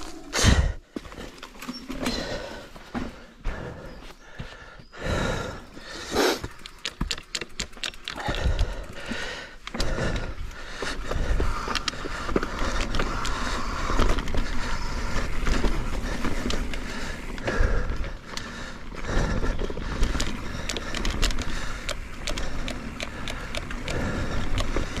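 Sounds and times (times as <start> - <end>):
bike clicking and rattling: 0.0 - 25.0
bike tyres rolling on dirt: 0.0 - 25.0.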